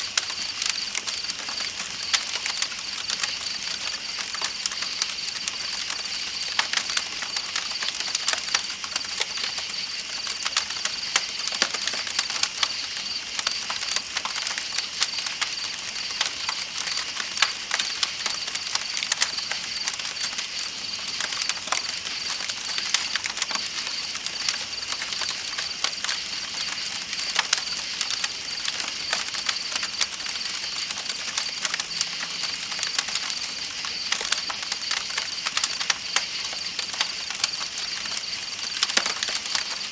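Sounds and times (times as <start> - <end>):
campfire crackling and popping: 0.0 - 39.9
night insects chirring: 0.0 - 39.9.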